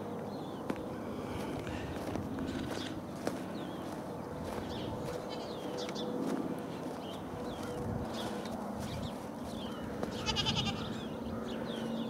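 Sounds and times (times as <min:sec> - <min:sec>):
footsteps crunching through snow: 0:00.7 - 0:10.8.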